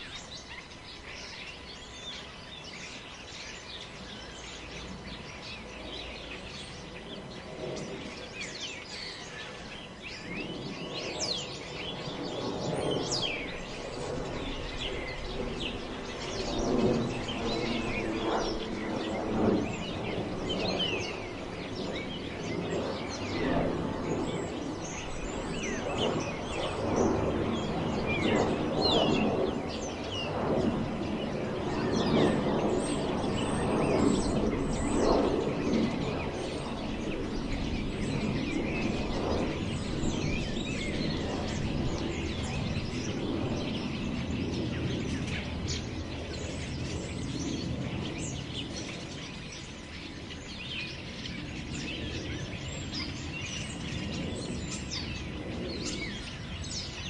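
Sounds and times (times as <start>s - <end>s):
birds chirping: 0.0s - 57.0s
wind blowing through trees: 0.0s - 57.0s.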